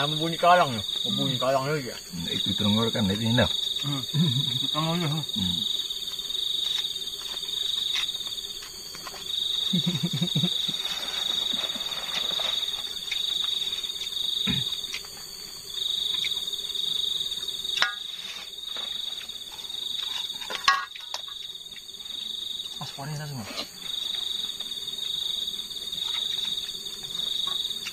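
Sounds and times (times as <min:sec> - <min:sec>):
crickets trilling: 0:00.0 - 0:27.9.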